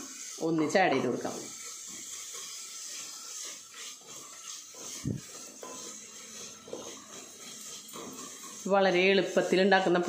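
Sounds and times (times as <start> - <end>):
onions sizzling in oil: 0.0 - 10.0
wooden spatula scraping: 0.0 - 10.0.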